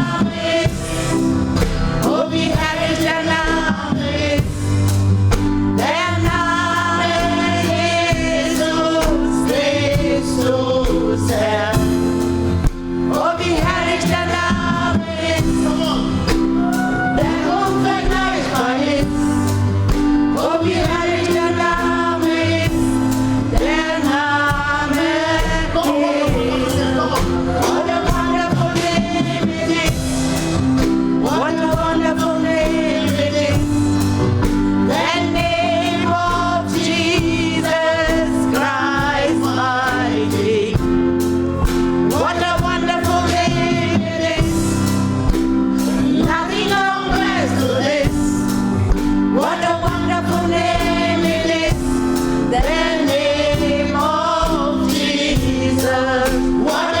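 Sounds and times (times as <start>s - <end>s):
bass and keyboard accompaniment: 0.0s - 57.0s
gospel choir singing: 0.0s - 57.0s
steady beat: 0.0s - 57.0s.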